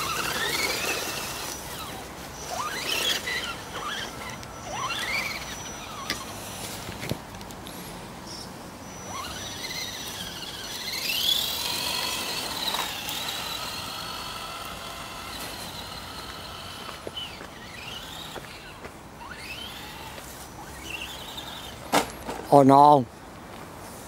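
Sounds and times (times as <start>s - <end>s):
toy car motor whining: 0.0s - 6.9s, 8.3s - 21.8s.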